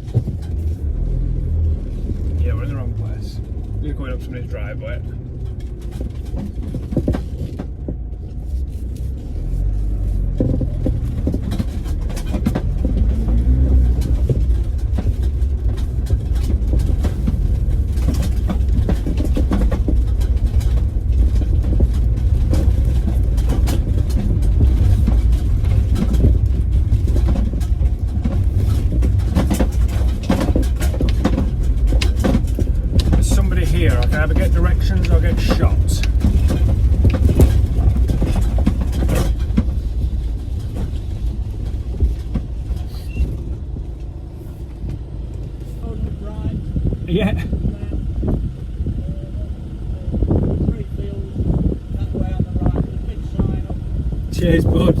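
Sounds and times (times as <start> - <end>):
knocks and rattles: 0.0 - 46.4
van engine and road rumble: 0.0 - 55.0.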